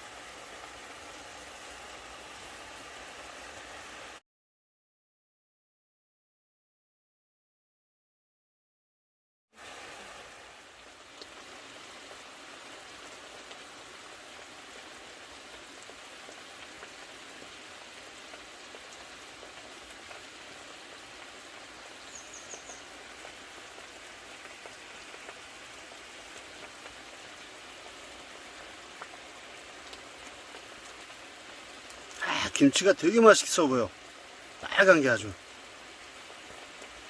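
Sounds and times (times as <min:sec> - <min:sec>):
stream rushing over rocks: 0:00.0 - 0:04.2, 0:09.6 - 0:37.0.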